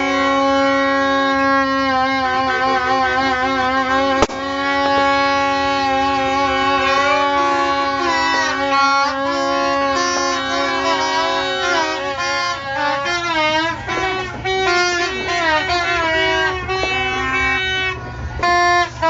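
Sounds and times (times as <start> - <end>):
horns blasting sustained tones: 0.0 - 19.0
sharp crack: 0.4 - 15.7.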